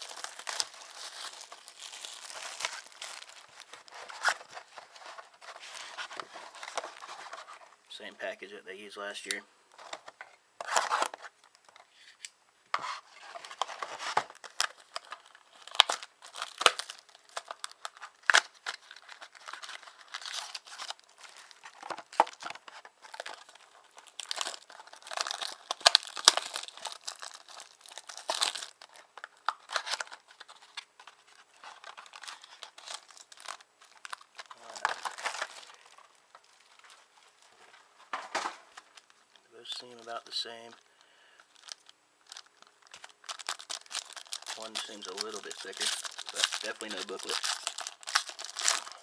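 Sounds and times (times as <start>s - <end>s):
plastic wrapping crinkling: 0.0s - 7.7s, 12.8s - 40.8s, 41.4s - 49.0s.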